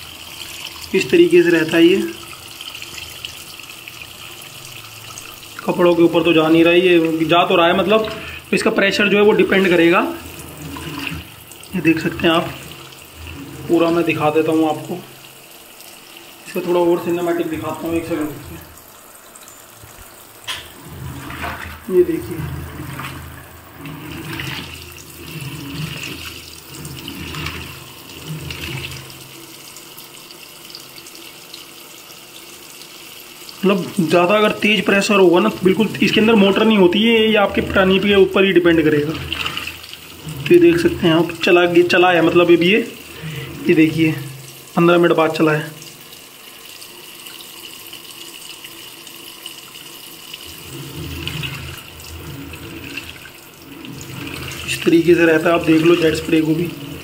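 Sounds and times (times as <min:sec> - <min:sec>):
washing machine churning: 0:00.0 - 0:57.0
water stream pouring into tub: 0:00.0 - 0:57.0.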